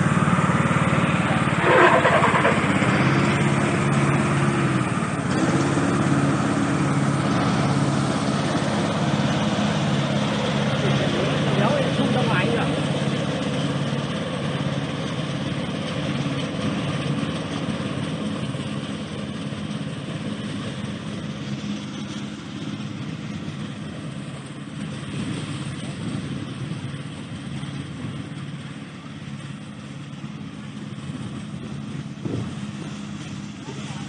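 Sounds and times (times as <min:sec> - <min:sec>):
broad whirring noise: 0:00.0 - 0:15.4, 0:17.6 - 0:34.0
riding lawn mower engine: 0:00.0 - 0:34.0.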